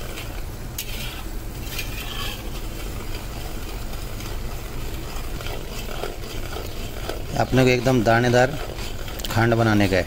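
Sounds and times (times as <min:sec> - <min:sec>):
metal spatula scraping pan: 0:00.0 - 0:10.0
syrup bubbling at the boil: 0:00.0 - 0:10.0.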